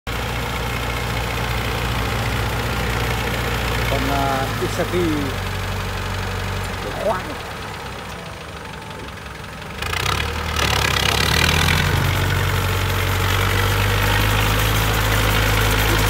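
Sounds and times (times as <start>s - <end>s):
tractor diesel engine running: 0.1s - 16.0s.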